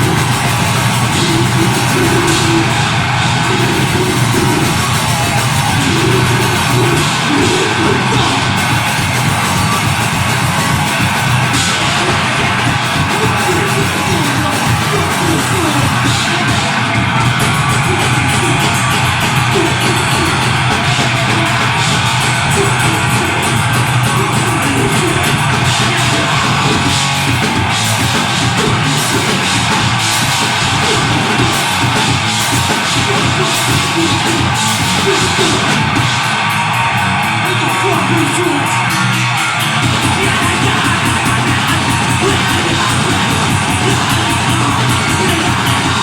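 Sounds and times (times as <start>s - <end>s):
loud metal band playing live: 0.0s - 46.0s.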